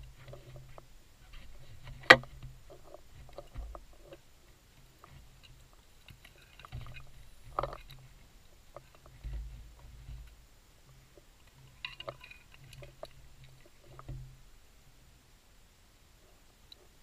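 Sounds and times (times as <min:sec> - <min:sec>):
crackles and small clicks: 0:00.0 - 0:14.6, 0:16.4 - 0:17.0.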